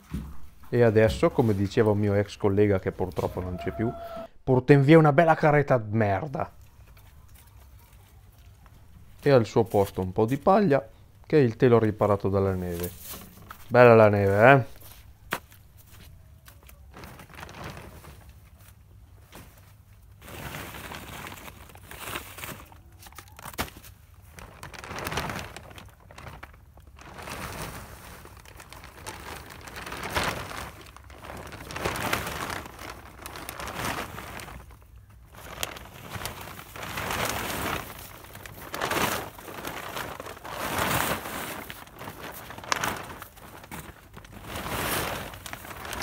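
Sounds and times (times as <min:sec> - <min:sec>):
plastic tarp rustling and crinkling: 0:00.0 - 0:04.3, 0:05.3 - 0:46.0.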